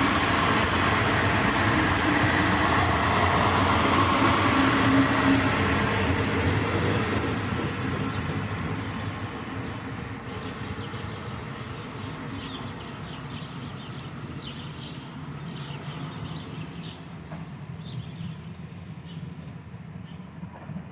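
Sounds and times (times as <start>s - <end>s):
train rumbling: 0.0s - 20.9s.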